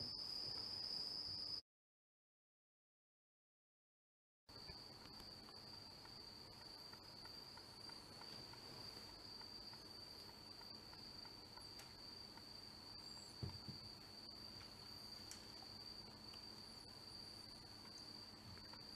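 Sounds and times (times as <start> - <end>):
faint high-pitched whine: 0.0 - 1.6, 4.5 - 18.9.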